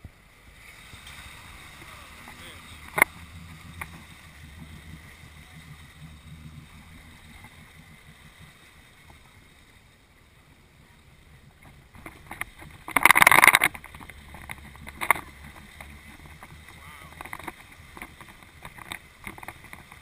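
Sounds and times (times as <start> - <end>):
engine running low: 0.0 - 20.0
water splashing and churning: 0.0 - 20.0.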